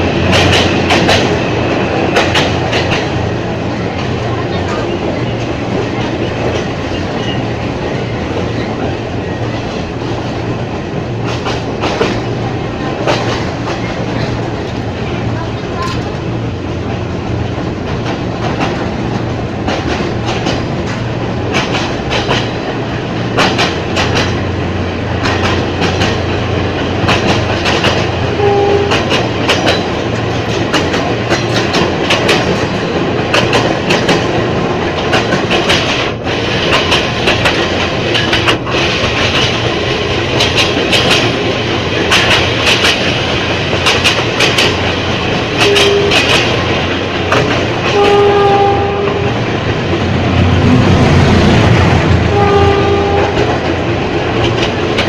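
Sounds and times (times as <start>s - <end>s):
train low hum: 0.0s - 55.0s
train wheels clicking over rail joints: 0.0s - 55.0s.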